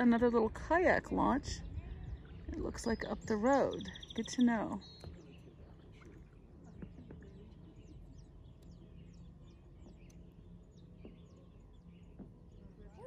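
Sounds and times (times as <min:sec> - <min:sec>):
songbird chirps: 0:00.0 - 0:13.0.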